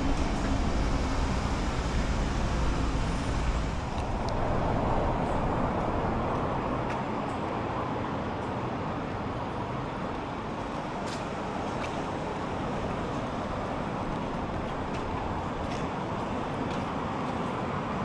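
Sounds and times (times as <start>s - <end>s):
road traffic rush: 0.0s - 18.0s.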